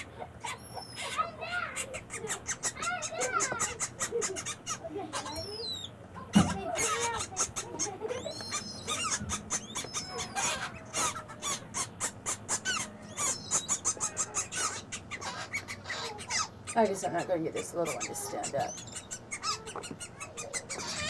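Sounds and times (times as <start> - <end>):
baby birds chirping: 0.0 - 21.0
high-pitched gliding bird calls: 0.0 - 21.0.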